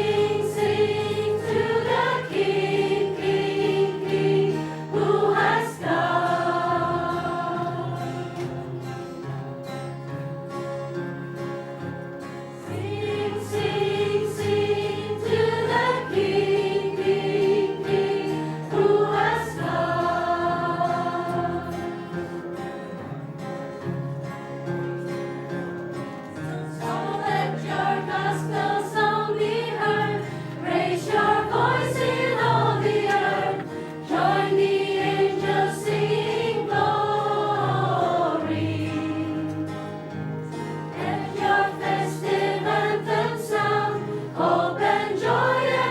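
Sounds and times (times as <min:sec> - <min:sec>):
group singing worship song: 0:00.0 - 0:09.1, 0:12.7 - 0:22.8, 0:26.7 - 0:45.9
guitars: 0:00.0 - 0:45.9.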